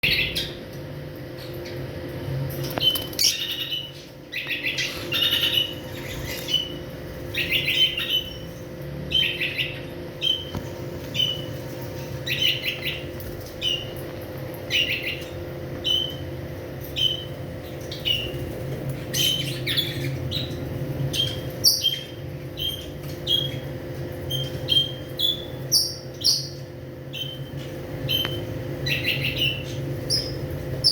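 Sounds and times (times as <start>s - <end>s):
birds chirping: 2.6s - 14.0s, 14.6s - 30.9s.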